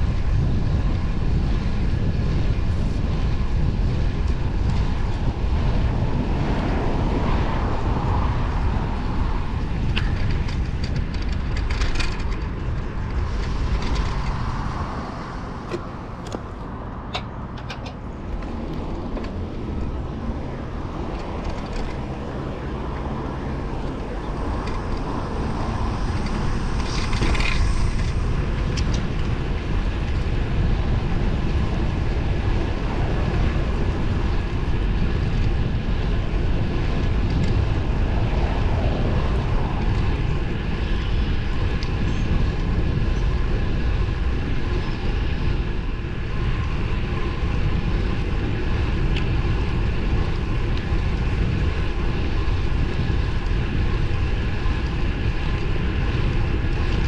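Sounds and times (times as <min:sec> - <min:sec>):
bike road noise: 0:00.0 - 0:57.0
wind rush on microphone: 0:00.0 - 0:57.0.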